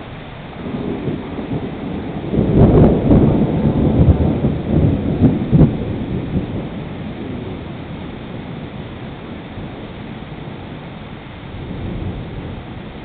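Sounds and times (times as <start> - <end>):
heavy rain hissing: 0.0 - 13.0
thunder rumbling and cracking: 0.0 - 13.0.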